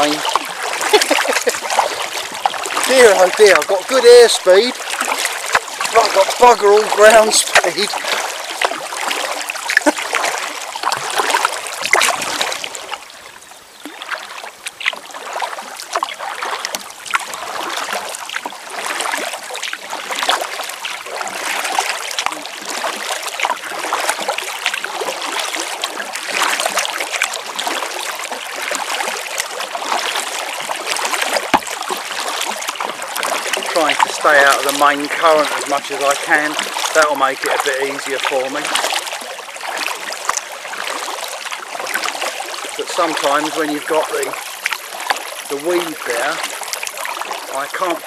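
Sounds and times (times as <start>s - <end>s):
paddle strokes splashing water: 0.0s - 48.0s
water dripping off paddle: 0.0s - 48.0s.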